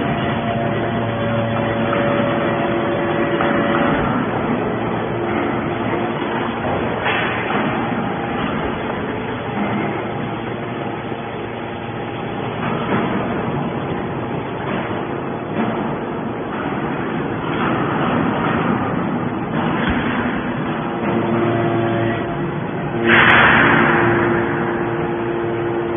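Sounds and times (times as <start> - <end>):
baler motor and hydraulic pump: 0.0 - 25.9.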